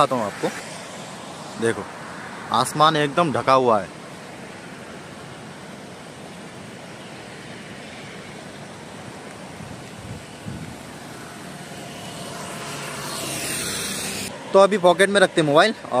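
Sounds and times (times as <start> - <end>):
tyre hiss on wet road: 0.0 - 14.4
outdoor noise rush: 0.0 - 16.0.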